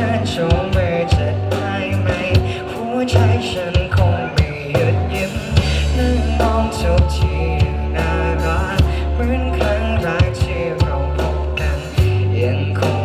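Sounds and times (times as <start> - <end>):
pop-rock band music: 0.0 - 13.0.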